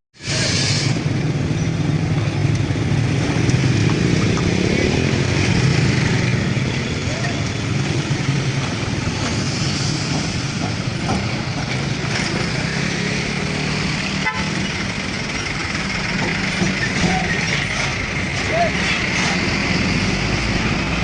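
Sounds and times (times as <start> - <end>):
vehicle engine hum: 0.2 - 21.0.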